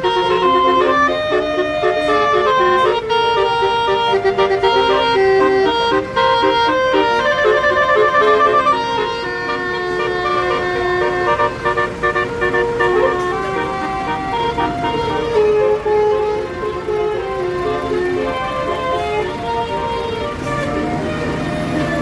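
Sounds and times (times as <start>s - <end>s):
musical bus horn playing tune: 0.0s - 22.0s.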